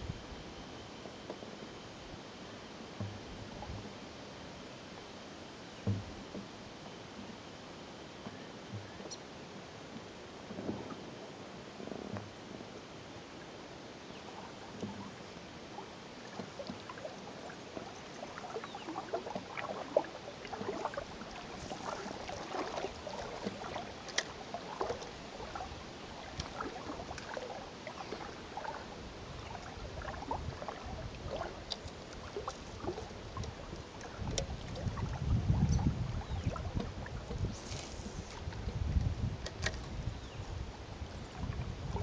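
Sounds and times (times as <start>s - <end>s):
water lapping against boat: 8.2s - 42.0s.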